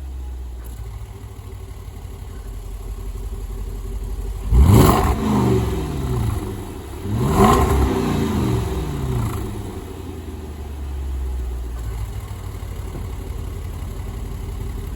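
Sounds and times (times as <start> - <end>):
car engine revving and idling: 0.0 - 14.9.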